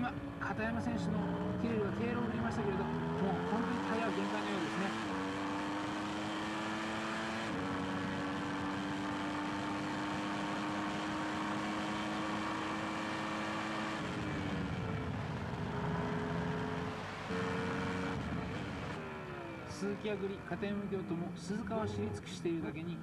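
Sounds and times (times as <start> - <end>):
racing car engine at high revs: 0.0 - 22.6.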